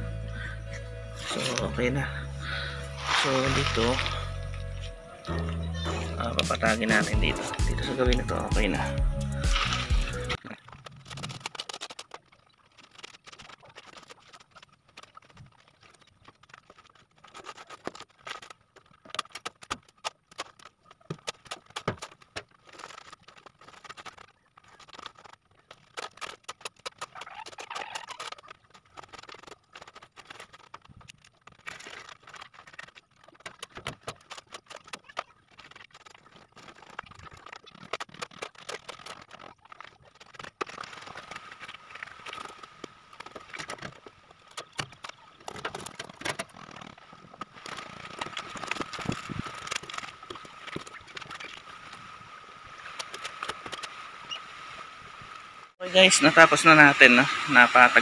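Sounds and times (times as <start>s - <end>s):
board scraping over gravel: 2.6s - 19.5s, 21.3s - 54.4s.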